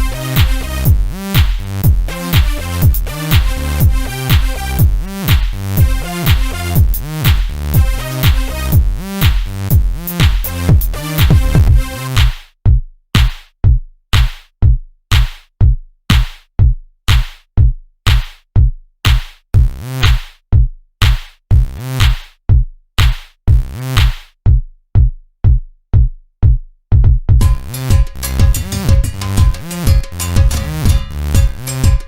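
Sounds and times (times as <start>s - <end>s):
drum-machine beat: 0.0s - 32.0s.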